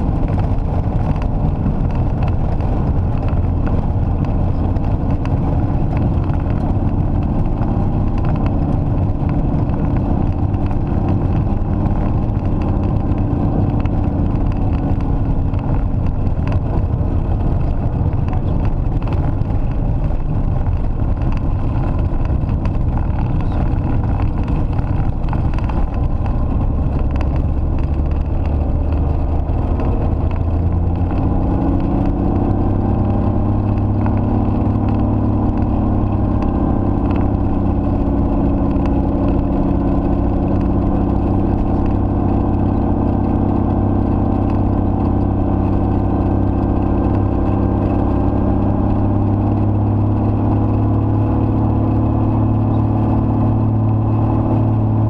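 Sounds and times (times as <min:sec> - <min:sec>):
plane engine and propeller: 0:00.0 - 0:55.0.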